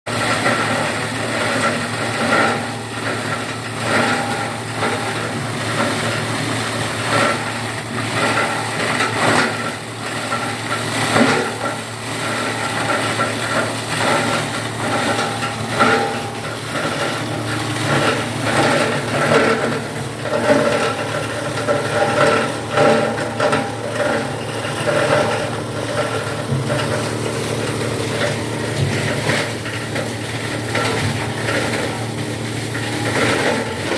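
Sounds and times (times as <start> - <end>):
paper shredder running: 0.1 - 33.9.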